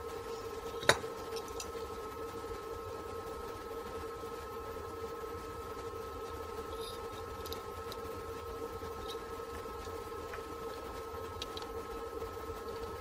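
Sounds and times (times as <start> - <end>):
two-tone hum: 0.0 - 13.0.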